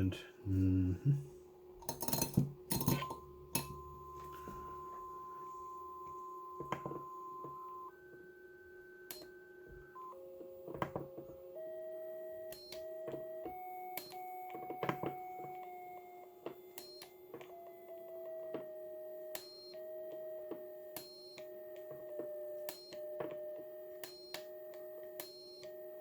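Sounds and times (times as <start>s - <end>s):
tuning clicks: 1.8s - 8.3s, 9.0s - 18.7s, 19.3s - 26.0s.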